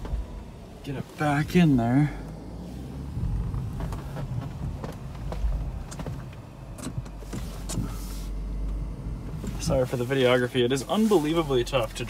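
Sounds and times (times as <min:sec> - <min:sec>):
car engine running slowly: 0:00.0 - 0:12.0.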